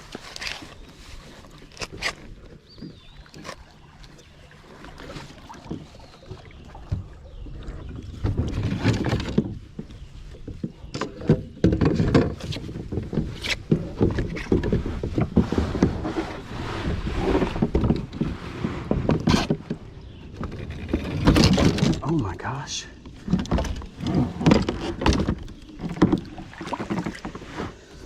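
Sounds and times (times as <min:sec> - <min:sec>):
kayak paddle splashing: 0:00.0 - 0:22.2, 0:22.9 - 0:28.0.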